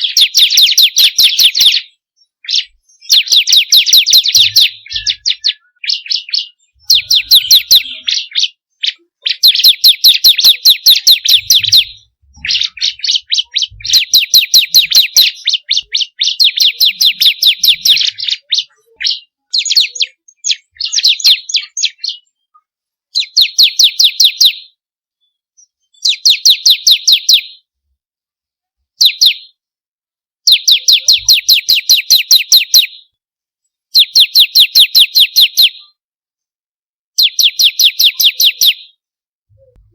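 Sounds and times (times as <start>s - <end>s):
bird rapid high chirping: 0.0s - 24.8s, 25.6s - 27.7s, 29.0s - 29.6s, 30.4s - 33.1s, 33.9s - 36.0s, 37.2s - 39.9s.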